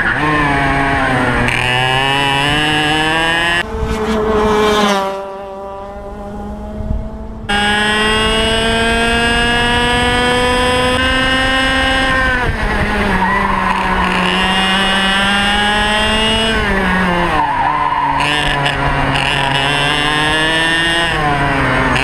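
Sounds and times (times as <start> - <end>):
two-stroke kart engine revving: 0.0 - 22.0.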